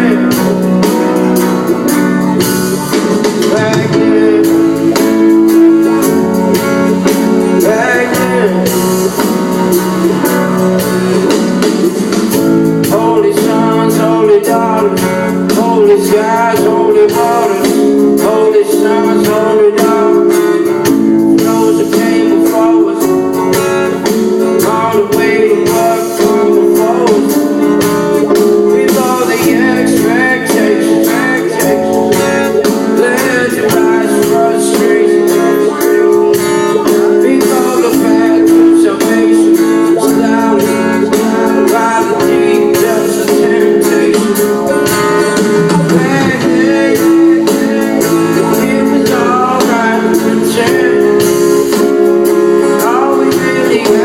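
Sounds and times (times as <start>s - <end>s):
guitar: 0.0s - 54.0s
live band playing: 0.0s - 54.0s
person singing: 0.0s - 54.0s.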